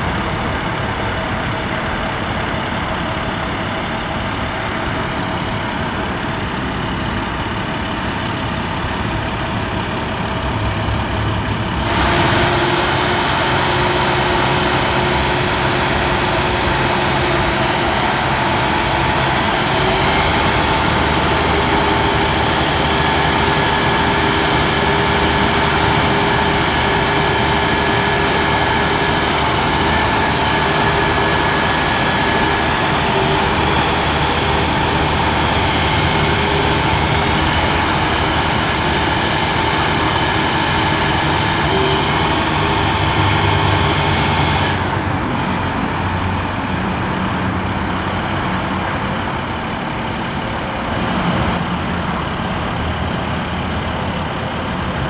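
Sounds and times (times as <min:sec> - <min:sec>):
diesel engine running: 0:00.0 - 0:55.0
hydraulic whine: 0:00.0 - 0:55.0.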